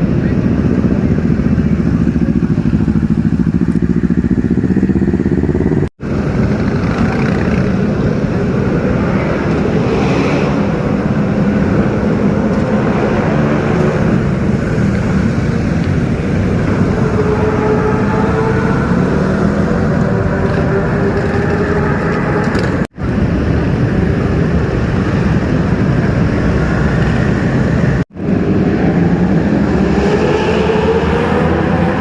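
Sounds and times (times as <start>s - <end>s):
motorcycle engines running loudly: 0.0s - 32.0s.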